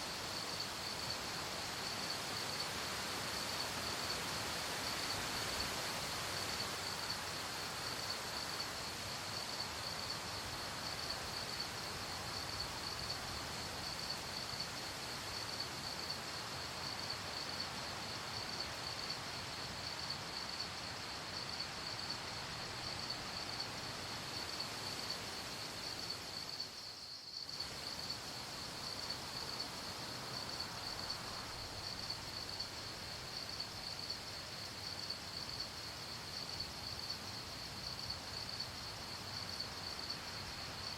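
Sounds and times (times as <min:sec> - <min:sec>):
crickets chirping: 0:00.0 - 0:40.9
soft background hiss: 0:00.0 - 0:40.9.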